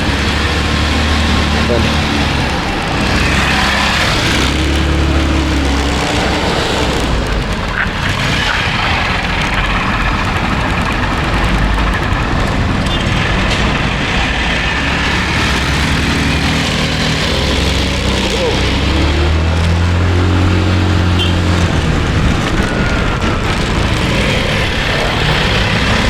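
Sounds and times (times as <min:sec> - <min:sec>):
scooter engine hum: 0:00.0 - 0:26.0
wind and road noise: 0:00.0 - 0:26.0.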